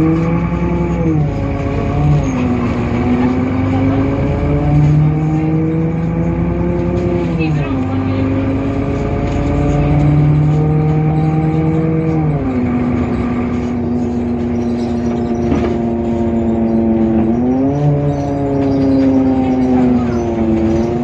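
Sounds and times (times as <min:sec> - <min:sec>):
bus diesel engine humming: 0:00.0 - 0:21.0.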